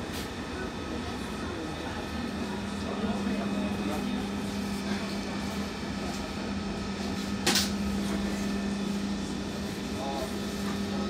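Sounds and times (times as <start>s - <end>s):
tram interior hum: 0.0s - 11.0s.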